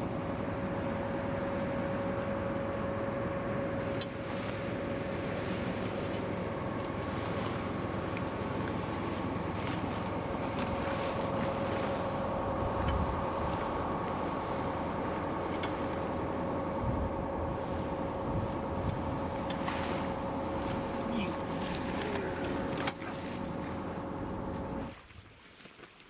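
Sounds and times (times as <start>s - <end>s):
outboard motor running: 0.0s - 25.1s.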